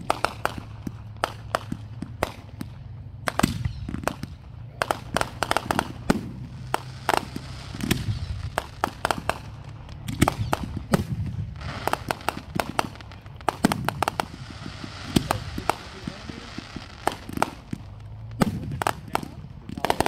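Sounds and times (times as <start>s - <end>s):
fireworks launching and bursting: 0.0s - 20.0s.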